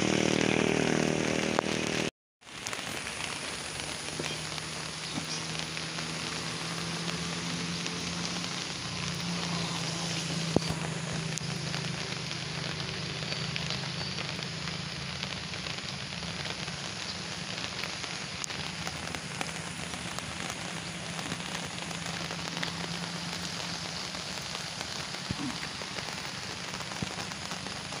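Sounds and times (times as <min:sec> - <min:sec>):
rain falling on bridge deck: 0:00.0 - 0:28.0
rain drop ticks: 0:01.6 - 0:28.0
rushing flooded river: 0:02.5 - 0:28.0.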